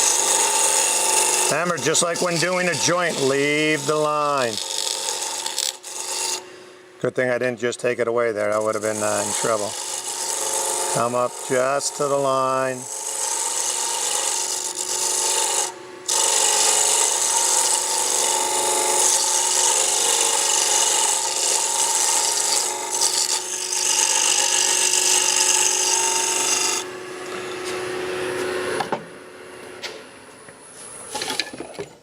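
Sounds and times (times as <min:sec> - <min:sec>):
chisel scraping spinning wood: 0:00.0 - 0:06.4, 0:07.2 - 0:27.8.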